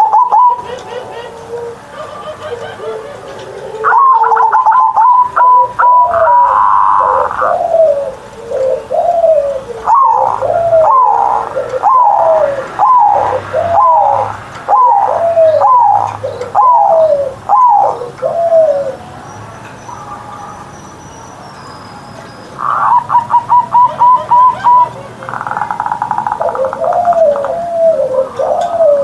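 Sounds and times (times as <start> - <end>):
dove cooing: 0.0 - 19.0, 22.6 - 29.0.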